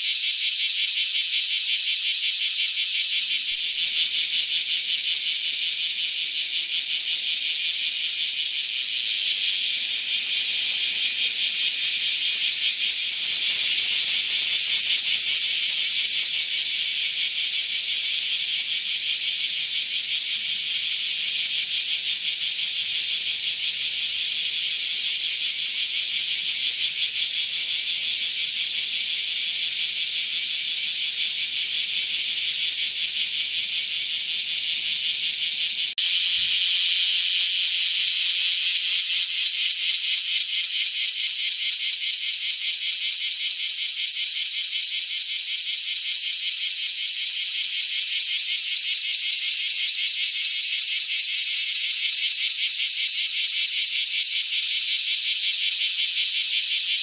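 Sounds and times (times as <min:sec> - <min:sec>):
cicada buzzing: 0:00.0 - 0:57.0.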